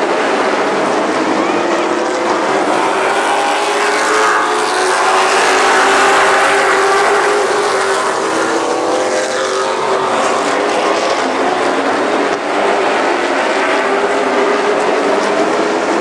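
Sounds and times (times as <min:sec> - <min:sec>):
stock cars racing past: 0:00.0 - 0:16.0.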